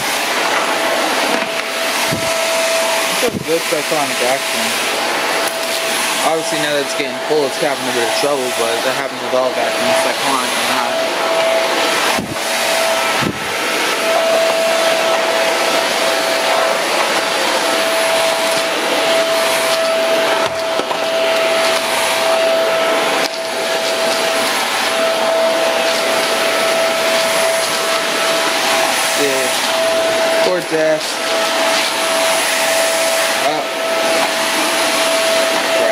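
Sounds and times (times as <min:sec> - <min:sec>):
stick vacuum running with high whine: 0:00.0 - 0:35.9.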